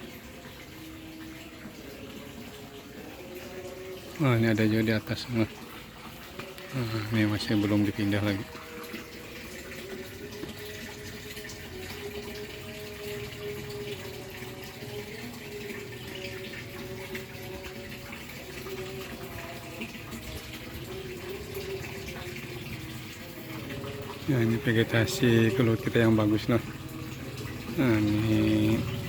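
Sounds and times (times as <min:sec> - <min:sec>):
running water: 0:00.0 - 0:29.0.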